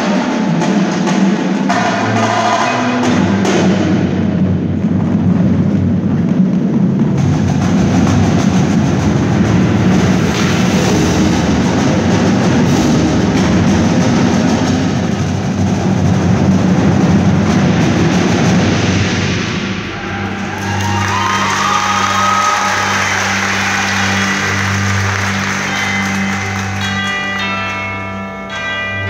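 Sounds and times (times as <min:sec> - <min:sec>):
drums and mallet percussion: 0:00.0 - 0:29.0.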